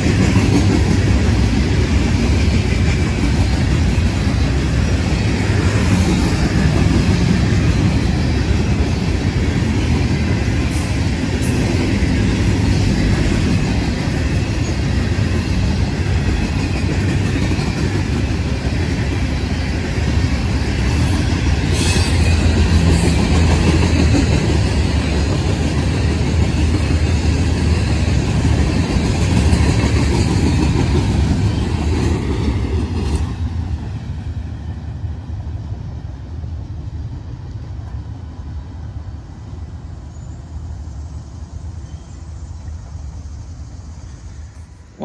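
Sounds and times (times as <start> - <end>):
train rumbling and rattling past: 0.0 - 45.0.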